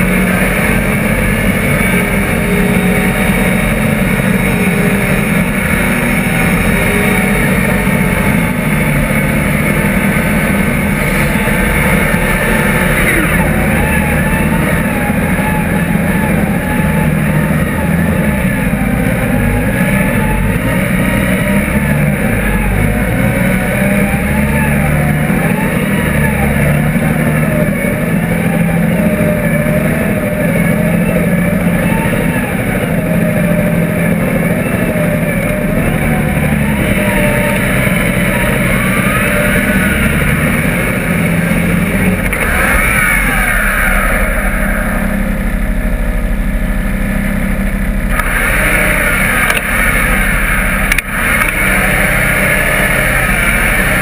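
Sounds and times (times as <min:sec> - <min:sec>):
buggy engine running hard: 0:00.0 - 0:54.0.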